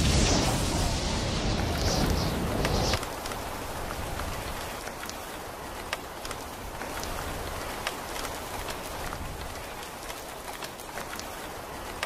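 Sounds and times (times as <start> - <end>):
rain falling on wet soil: 0.0 - 12.0.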